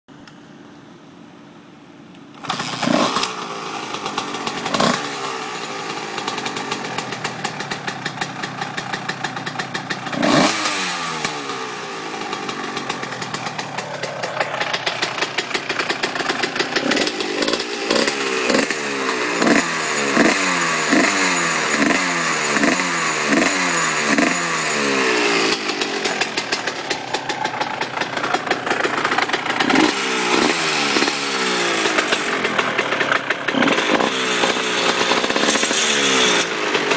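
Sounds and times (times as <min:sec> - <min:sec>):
dirt bike engine revving: 0:02.4 - 0:36.9
rattle: 0:02.4 - 0:36.9.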